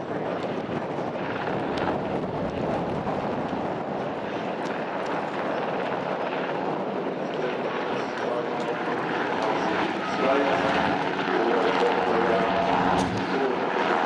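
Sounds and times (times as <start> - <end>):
helicopter rotor and turbine din: 0.0 - 14.0
wind on microphone: 0.0 - 14.0.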